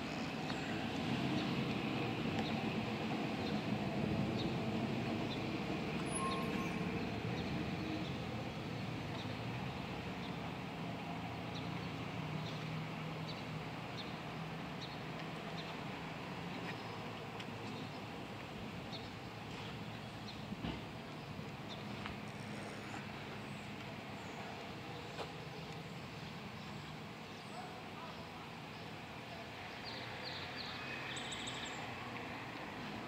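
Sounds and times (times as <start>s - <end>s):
street traffic passing: 0.0s - 33.0s.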